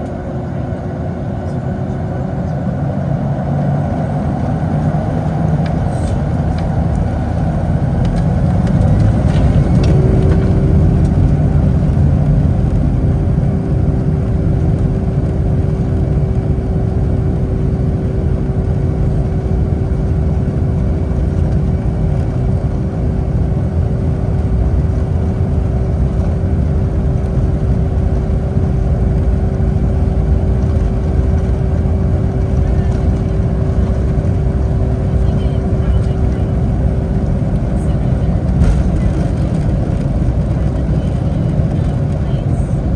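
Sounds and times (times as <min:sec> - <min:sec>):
jet engine rumble in cabin: 0:00.0 - 0:42.9.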